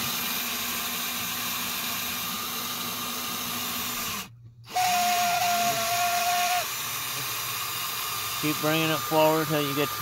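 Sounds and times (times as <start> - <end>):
cordless drill whining: 0.0 - 10.0.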